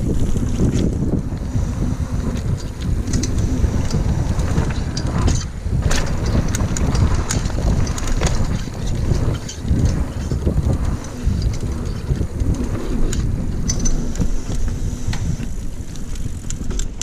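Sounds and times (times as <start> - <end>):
bike rattles and clicks: 0.0 - 17.0
bike tyre noise on dirt: 0.0 - 17.0
wind buffeting microphone: 0.0 - 17.0.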